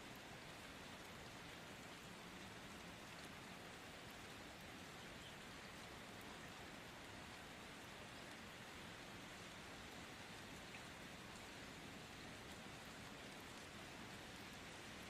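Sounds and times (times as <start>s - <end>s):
faint rain hiss: 0.0s - 15.0s
light raindrop ticks: 0.0s - 15.0s.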